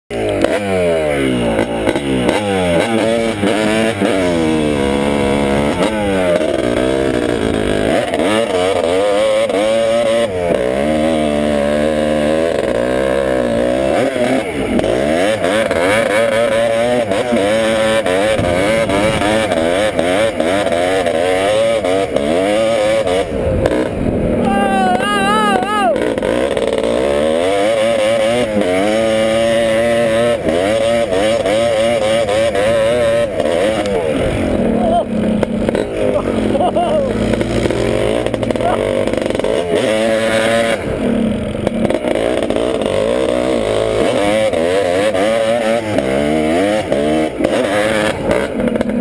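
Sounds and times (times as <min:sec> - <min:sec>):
two-stroke engine revving: 0:00.1 - 0:49.0.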